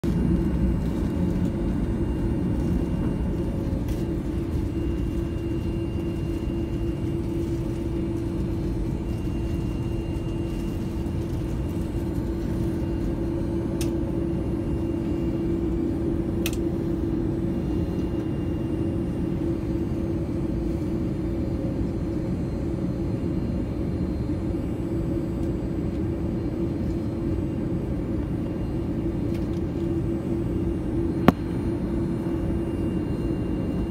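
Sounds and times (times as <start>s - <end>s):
airplane cabin rumble: 0.0s - 33.9s
constant hum: 0.0s - 33.9s.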